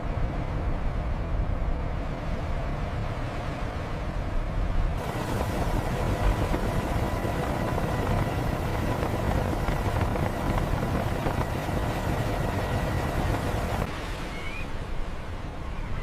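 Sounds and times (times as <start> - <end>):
low mechanical rumble: 0.0 - 13.9.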